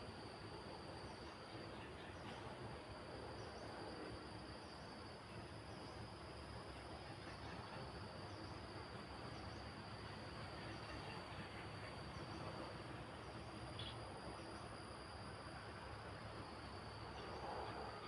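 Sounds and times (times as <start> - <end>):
high insect trill: 0.1 - 18.0.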